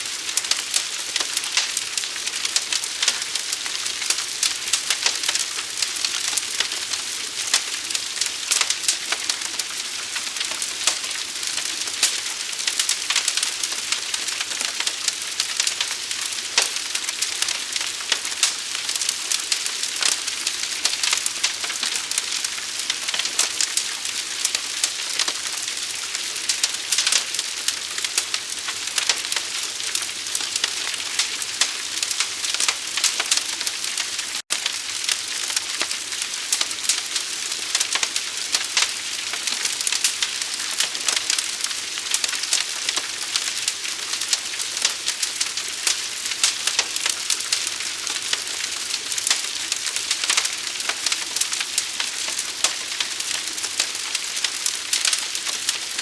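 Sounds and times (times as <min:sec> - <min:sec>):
large fire crackling and popping: 0:00.0 - 0:56.0.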